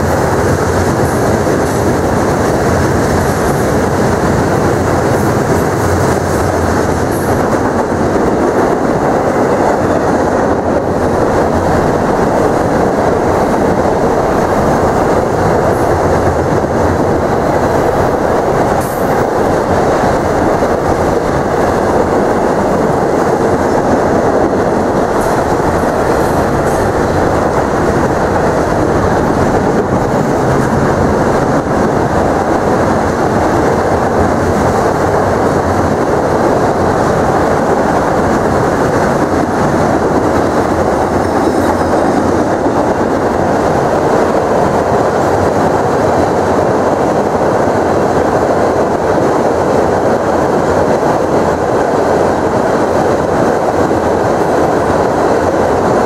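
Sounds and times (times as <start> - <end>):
train wheels rolling over bridge: 0.0 - 56.0.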